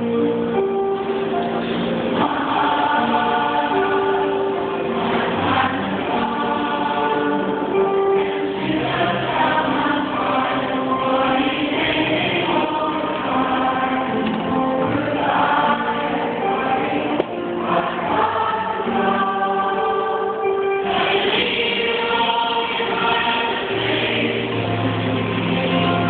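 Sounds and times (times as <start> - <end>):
mixed choir singing: 1.6 - 26.0.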